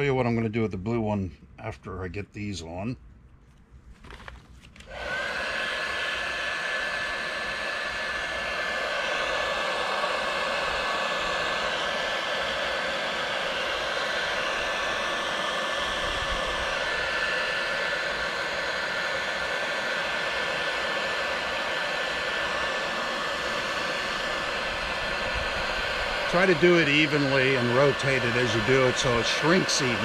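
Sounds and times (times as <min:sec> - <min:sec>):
heat gun blowing air: 0:04.8 - 0:30.0.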